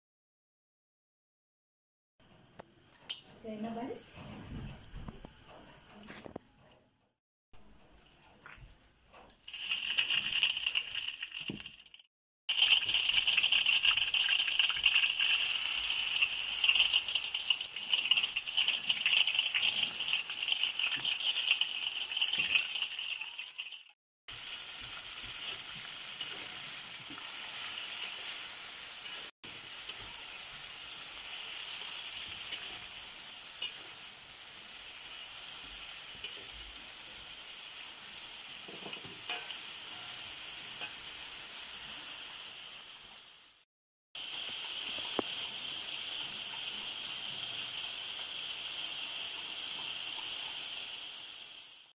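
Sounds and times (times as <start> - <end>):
food sizzling in a wok: 3.4 - 5.5, 9.3 - 51.9.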